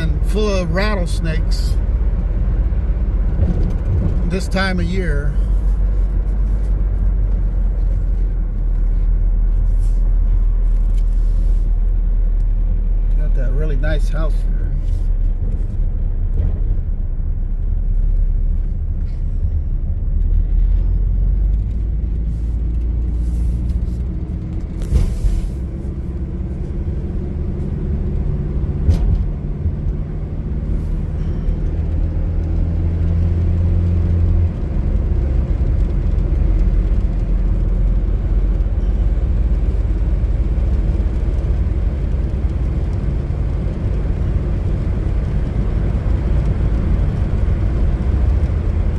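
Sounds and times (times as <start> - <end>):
pickup engine rumble: 0.0 - 48.9
road noise: 0.0 - 48.9.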